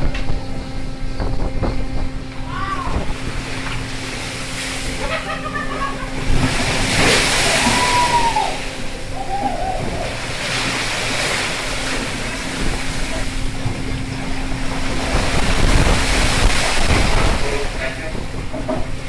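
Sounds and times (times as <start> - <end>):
boat engine hum: 0.0 - 19.0
sea wash: 0.0 - 19.0
wind: 0.0 - 19.0.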